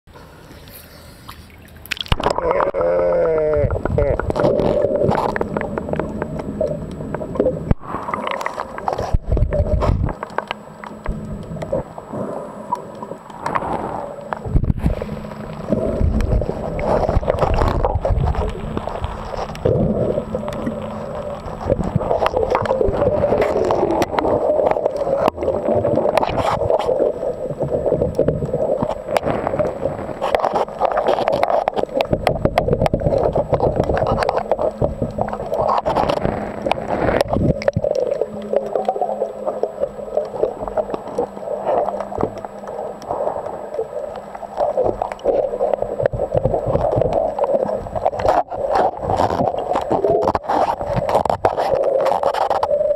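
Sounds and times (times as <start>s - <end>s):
faint steady hum: 0.1s - 52.9s
underwater breathing bubbles: 0.5s - 10.2s, 11.1s - 52.9s.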